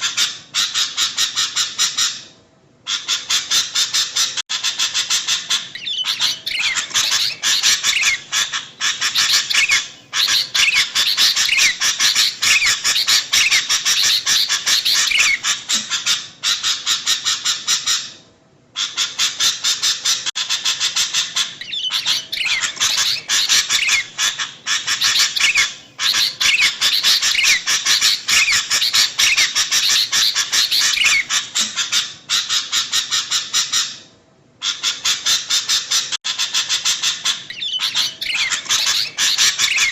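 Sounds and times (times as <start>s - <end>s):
birds chattering: 2.9s - 18.0s, 18.8s - 33.9s, 34.6s - 39.9s.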